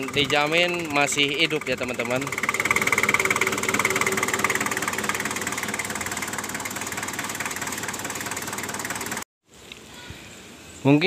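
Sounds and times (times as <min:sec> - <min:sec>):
diesel engine idling: 0:00.0 - 0:09.2.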